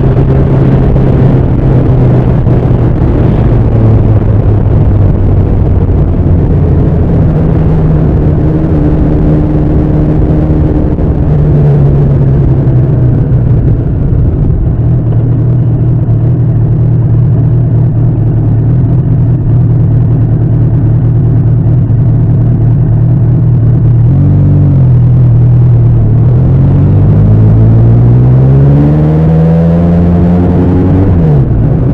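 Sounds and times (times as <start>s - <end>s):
motorcycle exhaust note: 0.0s - 31.9s.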